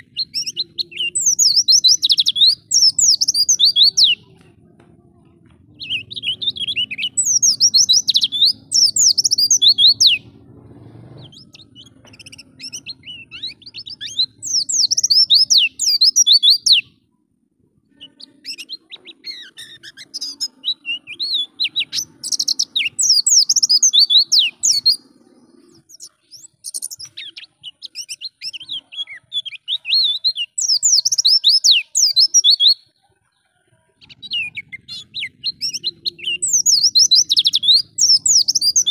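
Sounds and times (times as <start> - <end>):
bird chirping: 0.0 - 17.1, 17.8 - 38.9.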